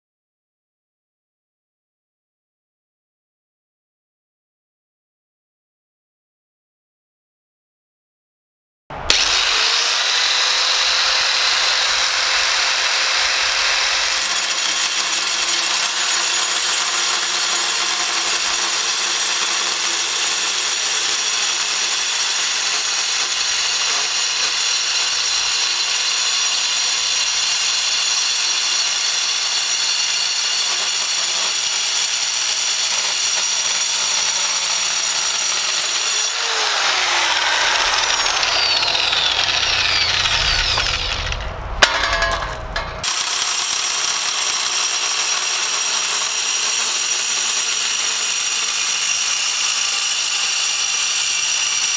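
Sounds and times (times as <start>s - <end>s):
angle grinder cutting steel: 8.9s - 51.9s.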